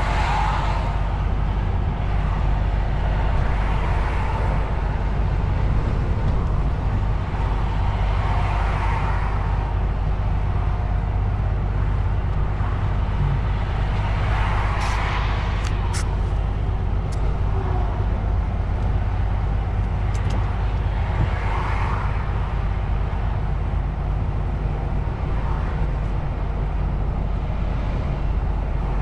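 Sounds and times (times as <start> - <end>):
road noise: 0.0 - 29.0
truck engine drone: 0.0 - 29.0.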